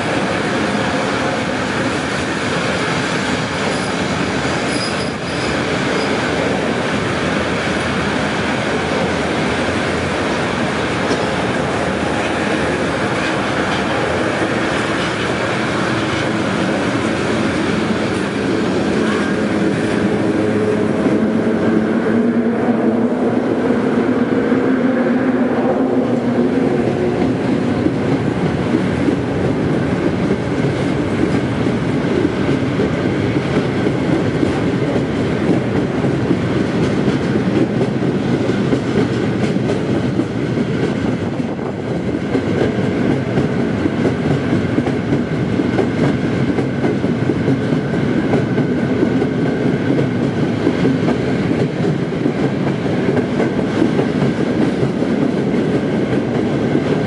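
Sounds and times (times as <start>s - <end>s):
freight train rumbling past: 0.0s - 57.0s
locomotive hum: 0.0s - 57.0s.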